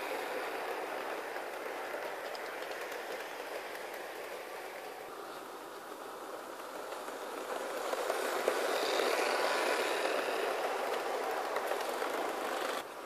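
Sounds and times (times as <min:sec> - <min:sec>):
model train motor hum: 0:00.0 - 0:13.0
wheels rattling on rails: 0:00.0 - 0:13.0.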